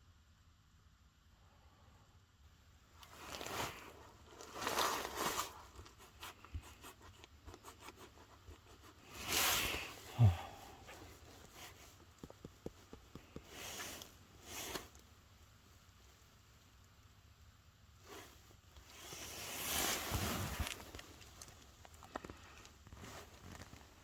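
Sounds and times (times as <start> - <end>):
rustling and handling: 2.9 - 16.8, 18.0 - 24.0.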